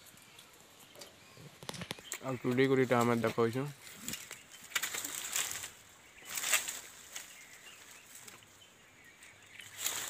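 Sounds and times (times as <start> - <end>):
leaves and twigs rustling: 0.0 - 10.0.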